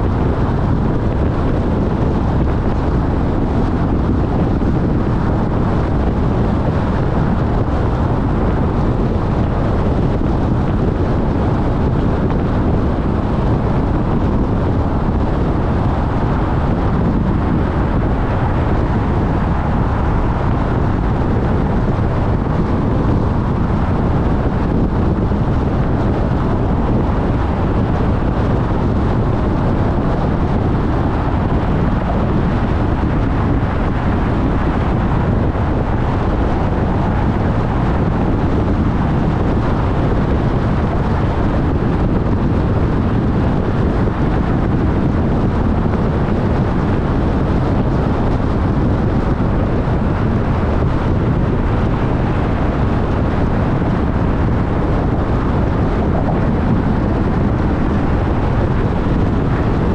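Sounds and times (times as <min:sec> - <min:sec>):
car road noise: 0:00.0 - 0:59.9.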